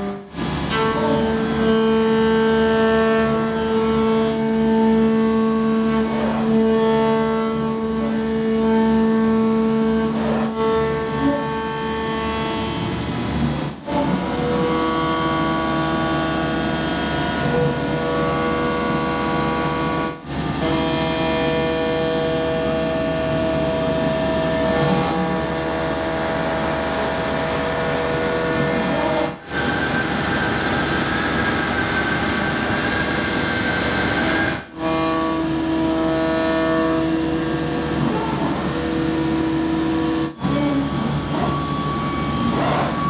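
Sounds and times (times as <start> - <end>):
cnc machine cutting: 0.0 - 43.0.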